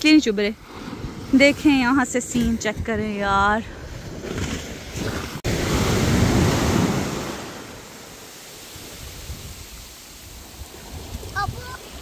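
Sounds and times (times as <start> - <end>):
sea waves washing in: 0.1 - 12.0.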